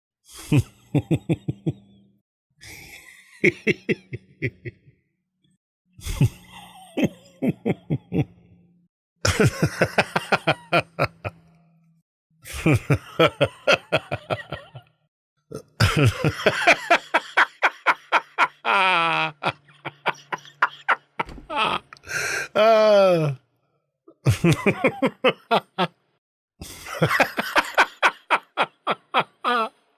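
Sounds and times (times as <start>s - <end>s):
man laughing: 0.3s - 1.9s, 2.6s - 5.0s, 6.0s - 8.6s, 9.3s - 11.6s, 12.4s - 14.9s, 15.5s - 23.4s, 24.1s - 26.0s, 26.6s - 29.8s.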